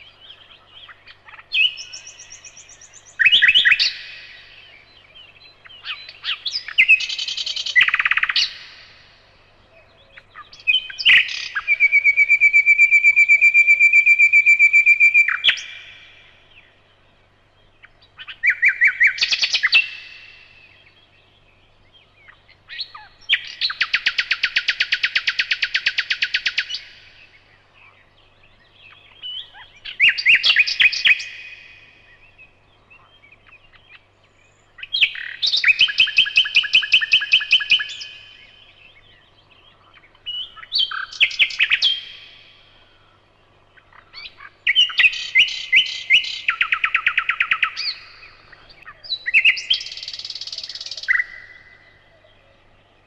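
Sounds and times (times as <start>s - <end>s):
nightingale singing trills: 0.0s - 53.0s.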